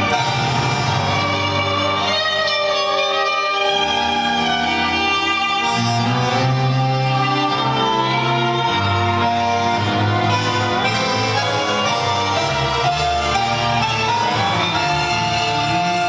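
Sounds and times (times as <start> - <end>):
tango music over loudspeakers: 0.0 - 16.0.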